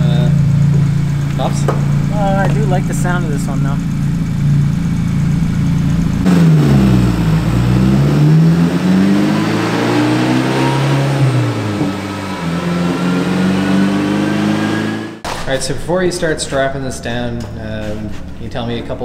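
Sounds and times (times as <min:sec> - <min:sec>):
faint rising turbo whine: 0:00.0 - 0:15.2
turbocharged car engine running: 0:00.0 - 0:15.2.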